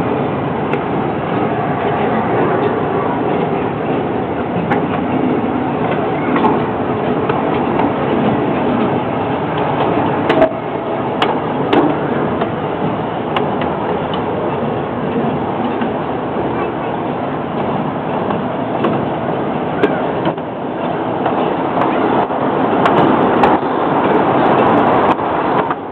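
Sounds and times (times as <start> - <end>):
miniature train rumbling on track: 0.0 - 25.9.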